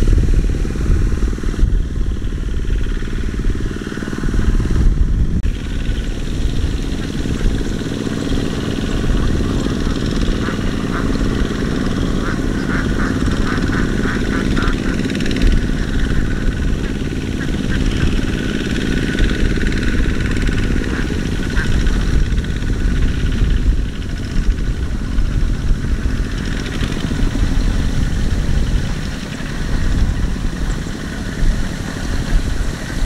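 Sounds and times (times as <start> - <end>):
diesel tractor engines chugging: 0.0 - 33.0.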